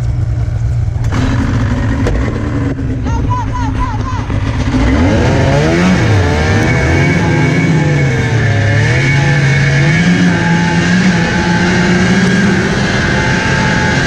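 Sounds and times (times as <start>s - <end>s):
high whine: 0.0s - 14.0s
snowmobile engine running: 0.0s - 14.0s.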